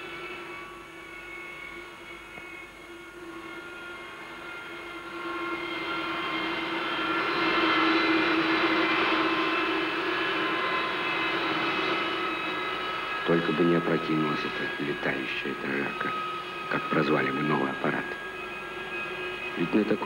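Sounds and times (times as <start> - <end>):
jet engine whine: 0.0 - 20.0.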